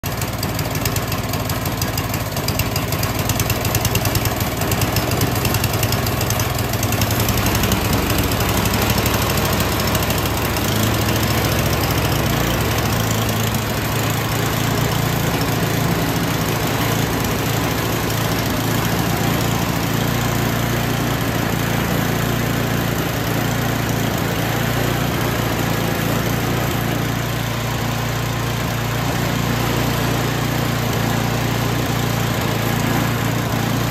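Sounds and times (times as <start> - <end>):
snowblower engine running: 0.0 - 33.9.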